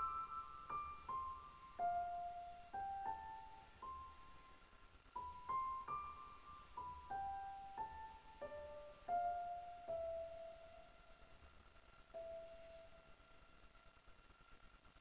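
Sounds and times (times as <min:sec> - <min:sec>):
slow solo piano melody: 0:00.0 - 0:11.3, 0:12.1 - 0:13.1.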